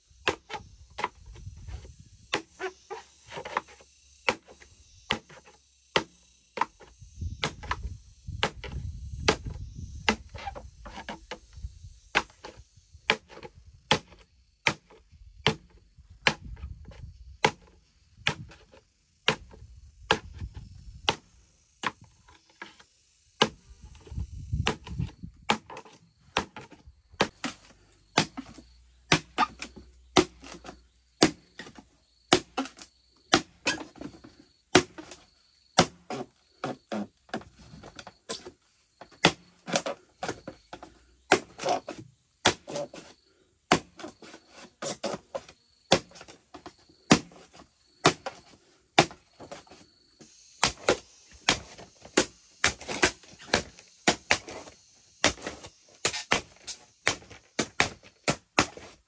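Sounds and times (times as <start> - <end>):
machete chopping bamboo: 0.2 - 11.5, 12.1 - 22.8, 23.4 - 35.2, 35.8 - 43.1, 43.7 - 49.8, 50.6 - 59.0.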